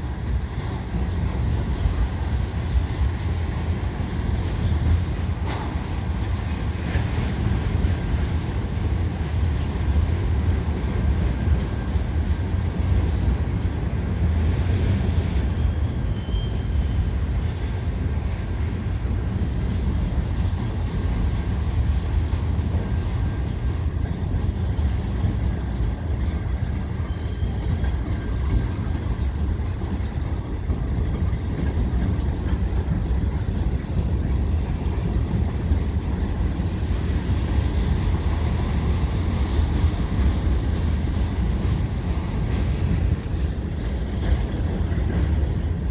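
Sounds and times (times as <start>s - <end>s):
freight train rumbling over bridge: 0.0s - 45.9s.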